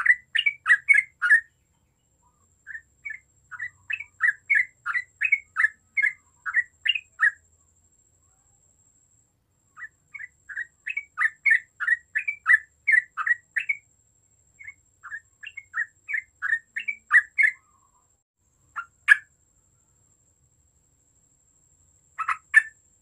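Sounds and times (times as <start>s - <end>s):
bird chirping: 0.0s - 8.7s, 9.6s - 20.0s, 22.1s - 23.0s.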